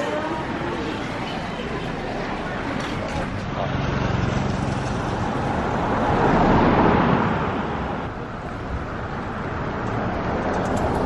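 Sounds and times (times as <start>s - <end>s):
road vehicle noise: 0.0s - 11.0s.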